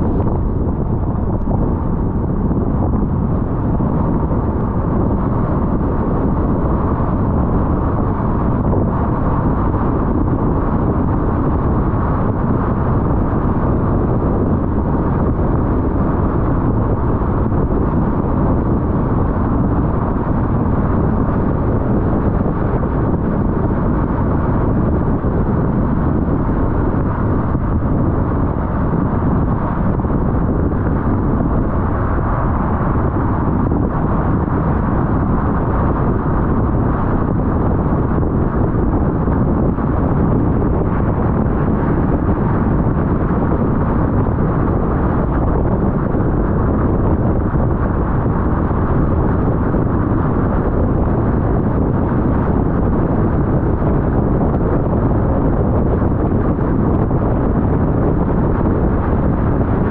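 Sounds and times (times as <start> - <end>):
car road and wind noise: 0.0 - 59.9.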